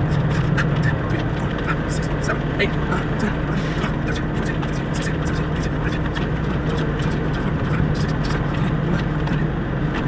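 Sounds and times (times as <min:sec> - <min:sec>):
diesel truck engines idling: 0:00.0 - 0:10.0.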